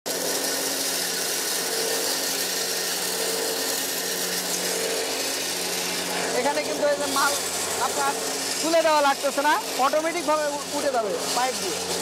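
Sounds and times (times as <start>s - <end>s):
grain grinder running: 0.1s - 12.0s.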